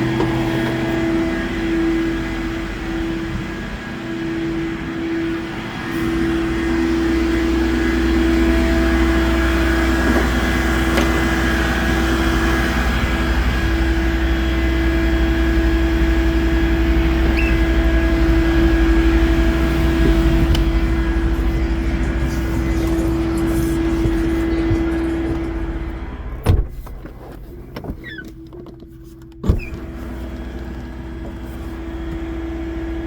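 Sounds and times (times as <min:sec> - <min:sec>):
steady whine: 0:00.0 - 0:33.0
truck engine rumbling: 0:00.0 - 0:33.0.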